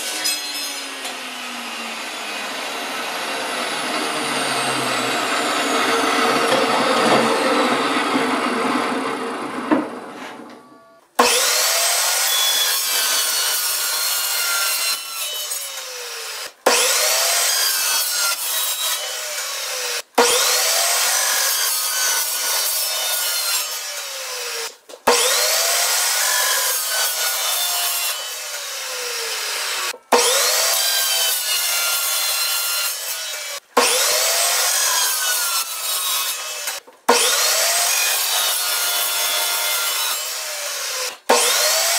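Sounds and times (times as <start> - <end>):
saw blade cutting through steel: 0.0 - 9.6, 11.2 - 41.9.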